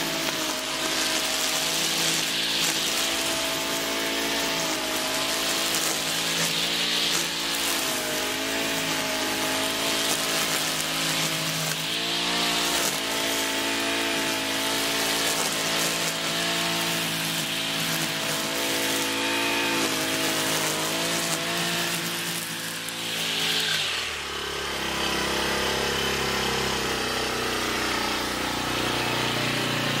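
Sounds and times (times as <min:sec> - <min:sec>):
brush cutter engine running: 0:00.0 - 0:30.0
trimmer line whipping through grass: 0:00.0 - 0:30.0.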